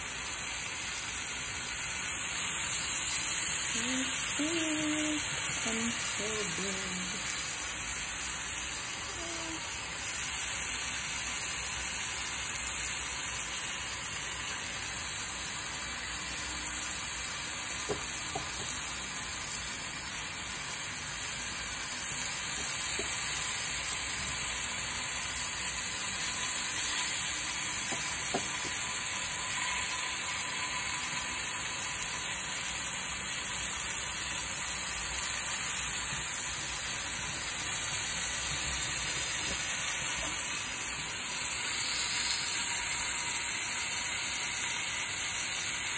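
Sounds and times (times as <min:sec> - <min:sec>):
meat sizzling on grill pan: 0:00.0 - 0:45.9.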